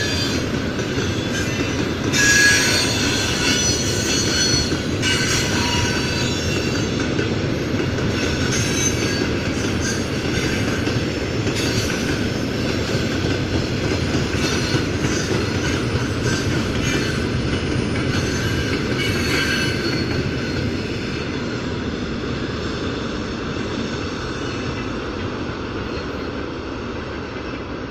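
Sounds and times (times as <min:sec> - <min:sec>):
train wheels squealing: 0:00.0 - 0:26.5
freight train rumbling past: 0:00.0 - 0:27.9.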